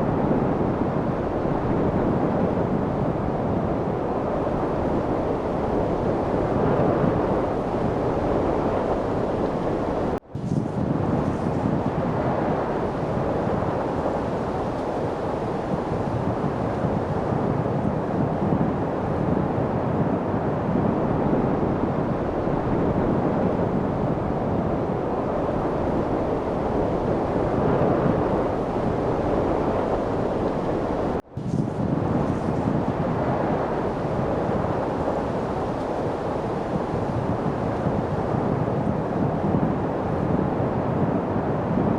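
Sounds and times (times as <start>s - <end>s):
steady wind rushing: 0.0s - 41.9s.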